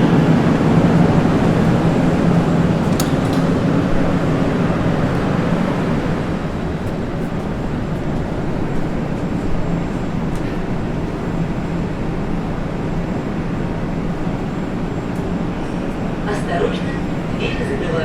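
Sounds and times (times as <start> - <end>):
metro train interior hum: 0.0 - 18.0.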